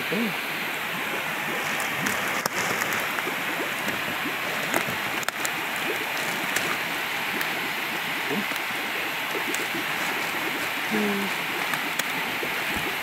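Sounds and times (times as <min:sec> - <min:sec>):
water bubbling: 0:00.0 - 0:13.0
water rushing and splashing: 0:00.0 - 0:13.0.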